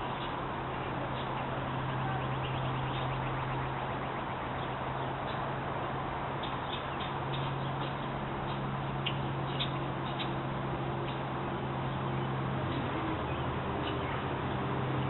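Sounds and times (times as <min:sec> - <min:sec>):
steady low hum and hiss: 0:00.0 - 0:15.0.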